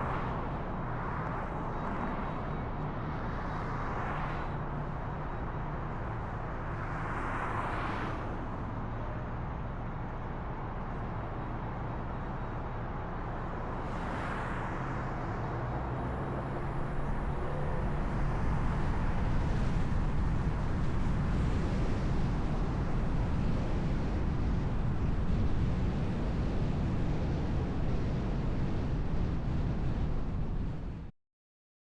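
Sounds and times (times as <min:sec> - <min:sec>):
car tyre and engine rumble: 0:00.0 - 0:31.1.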